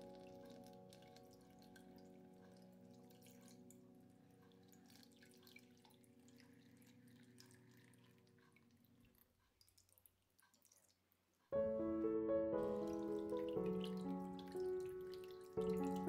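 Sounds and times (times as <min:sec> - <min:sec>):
water trickling into stone basin: 0:00.0 - 0:11.4, 0:12.6 - 0:16.0.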